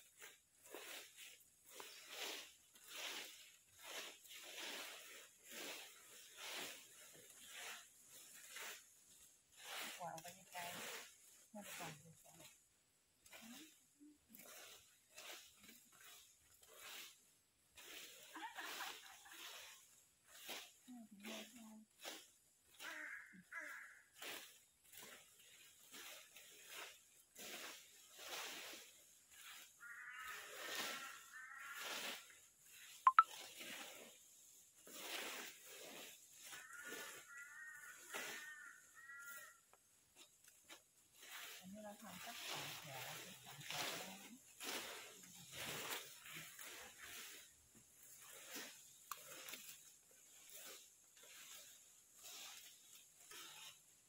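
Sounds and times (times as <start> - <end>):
rakes sweeping dry leaves: 0.0 - 54.0.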